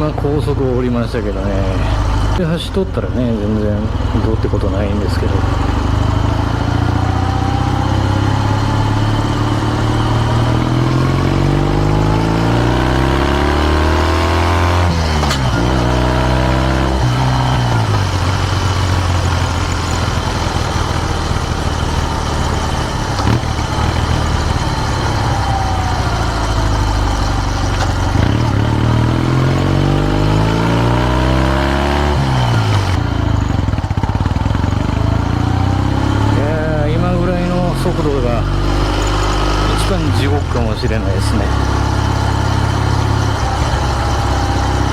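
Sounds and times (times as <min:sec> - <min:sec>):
motorcycle exhaust revving: 0:00.0 - 0:44.9.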